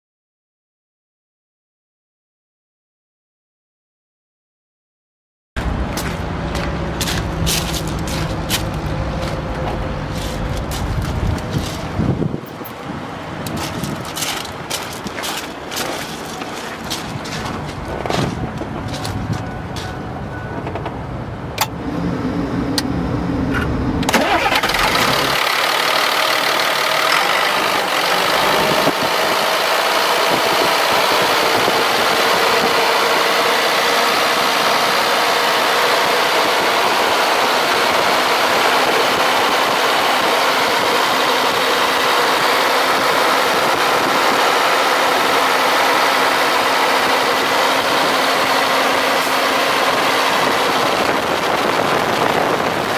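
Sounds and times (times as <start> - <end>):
diesel engine starting and idling: 5.6 - 52.9.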